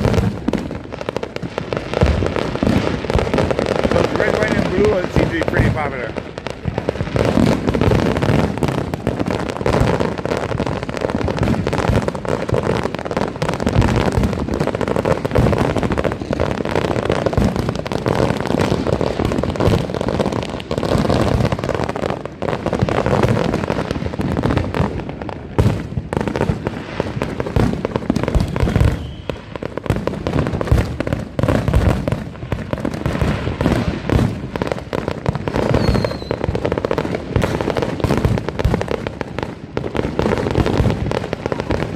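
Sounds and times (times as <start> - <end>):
fireworks and firecrackers banging: 0.0 - 41.9.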